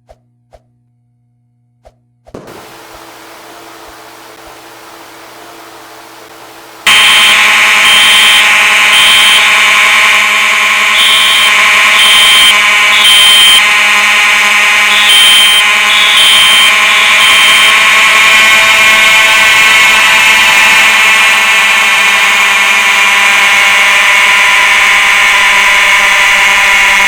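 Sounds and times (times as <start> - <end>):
fire alarm buzzing: 2.5 - 27.0
pulsing high alarm note: 2.6 - 27.0.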